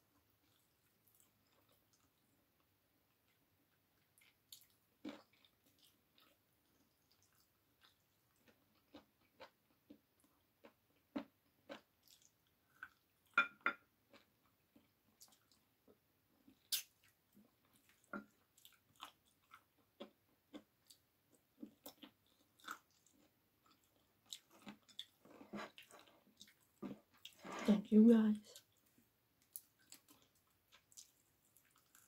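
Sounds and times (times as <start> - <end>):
person chewing: 0.4 - 2.3, 4.0 - 13.4, 14.0 - 15.7, 16.4 - 27.6, 28.6 - 32.0.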